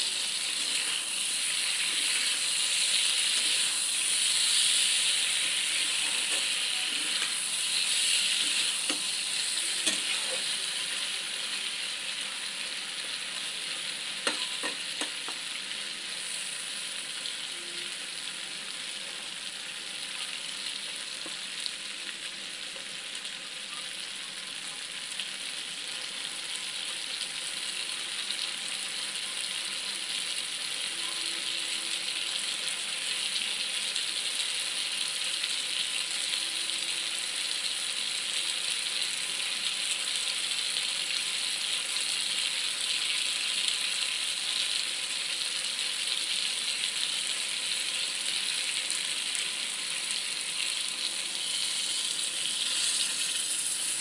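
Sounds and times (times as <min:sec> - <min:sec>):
vegetables frying in oil: 0:00.0 - 0:54.0.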